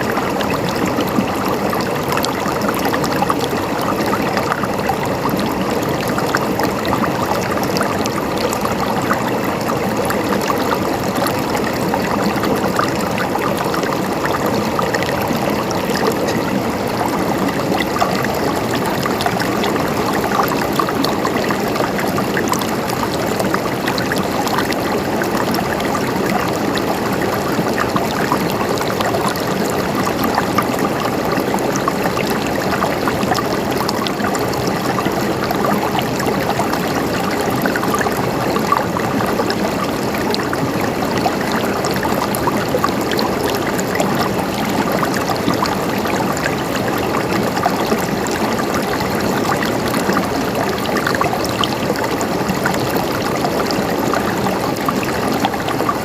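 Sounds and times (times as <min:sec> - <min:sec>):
stream water gurgling: 0:00.0 - 0:56.0.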